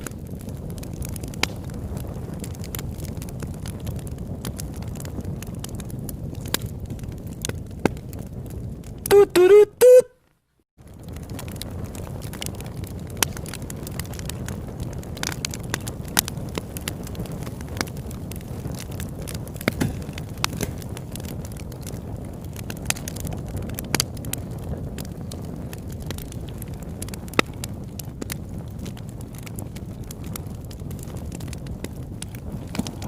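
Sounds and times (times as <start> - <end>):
campfire crackling: 0.0 - 10.0, 10.8 - 33.0.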